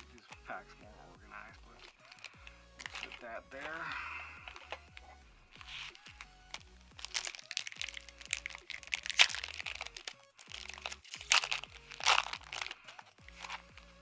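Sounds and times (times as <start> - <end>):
background music: 0.0 - 14.0
foil wrapper crinkling: 0.0 - 14.0.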